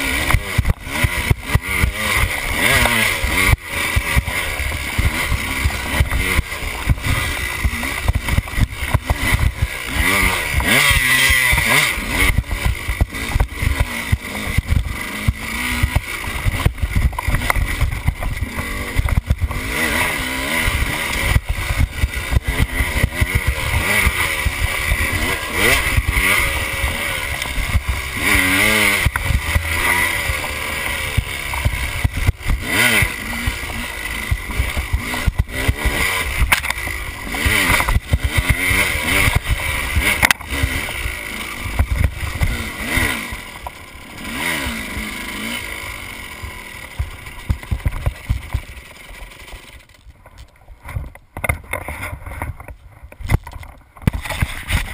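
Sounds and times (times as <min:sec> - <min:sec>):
bike knocks and rattles: 0:00.0 - 0:45.6, 0:46.3 - 0:54.9
dirt bike engine revving: 0:00.0 - 0:50.1, 0:50.8 - 0:54.9.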